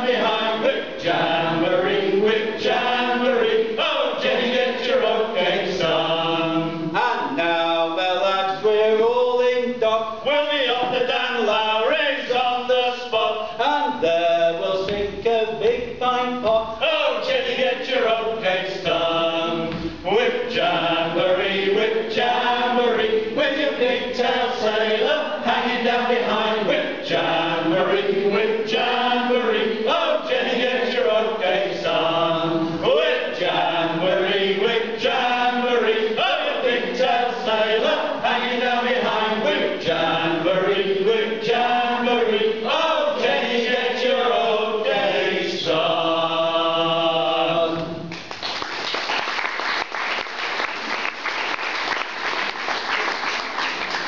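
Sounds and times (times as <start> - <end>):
men singing a sea shanty in chorus: 0.0 - 48.0.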